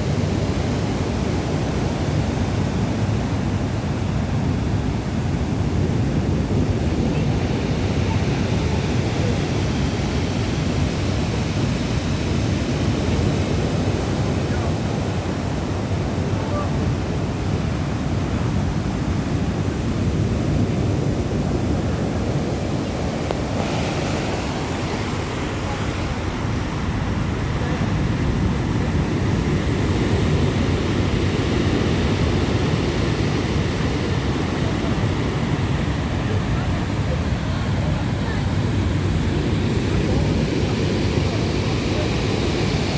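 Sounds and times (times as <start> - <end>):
sea surf rushing: 0.0 - 42.9
wind rumbling on microphone: 0.0 - 42.9.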